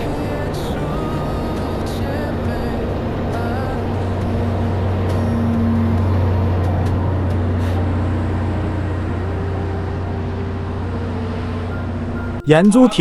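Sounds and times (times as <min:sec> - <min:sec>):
diesel locomotive droning: 0:00.0 - 0:13.0.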